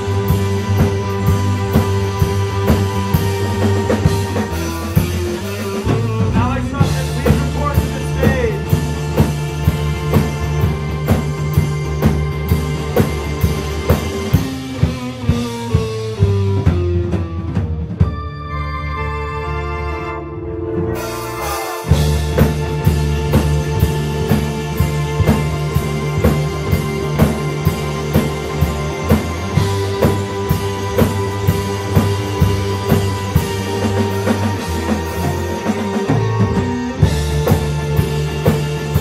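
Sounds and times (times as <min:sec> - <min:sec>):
drum kit beating: 0:00.0 - 0:18.8, 0:20.2 - 0:39.0
bass guitar: 0:00.0 - 0:39.0
electric guitars: 0:00.0 - 0:39.0
keyboard: 0:00.0 - 0:39.0.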